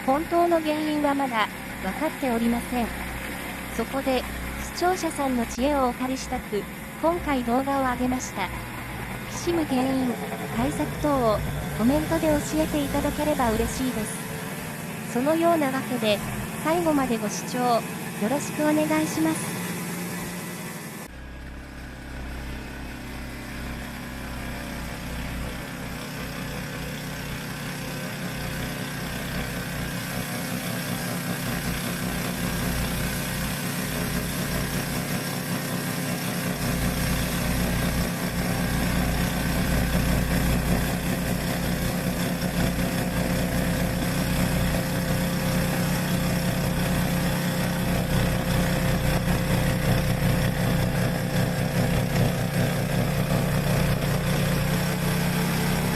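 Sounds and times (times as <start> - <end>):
snowblower engine running: 0.0 - 55.9.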